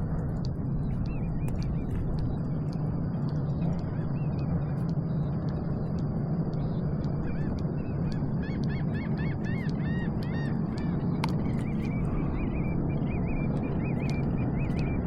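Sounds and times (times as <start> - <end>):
low hum: 0.0 - 15.0
wind: 0.0 - 15.0.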